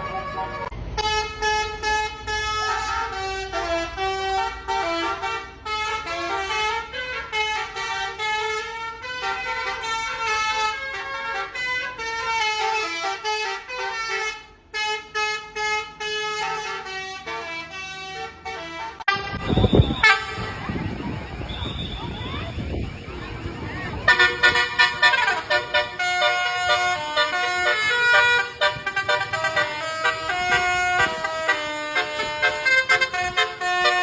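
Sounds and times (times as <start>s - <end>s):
multi-tone air horn playing tune: 0.0s - 23.4s, 24.0s - 34.0s.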